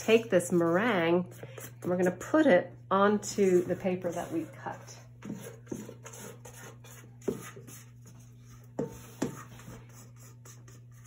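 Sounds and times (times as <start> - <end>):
spatula scraping metal bowl: 0.0 - 11.0.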